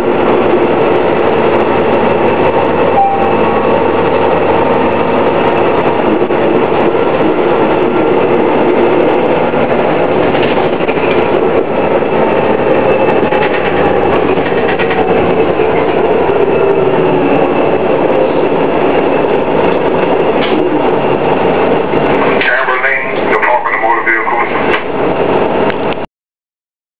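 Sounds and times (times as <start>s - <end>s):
bus engine running with whine: 0.0s - 26.0s.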